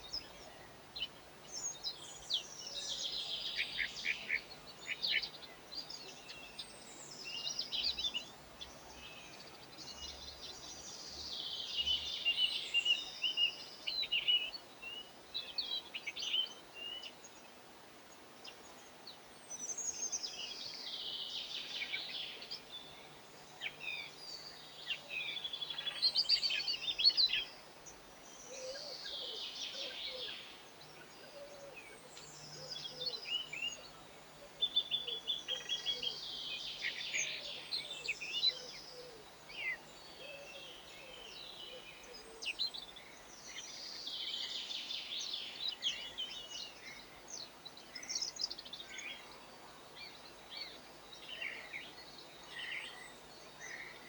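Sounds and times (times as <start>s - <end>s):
songbirds twittering and trilling: 0.0s - 54.0s.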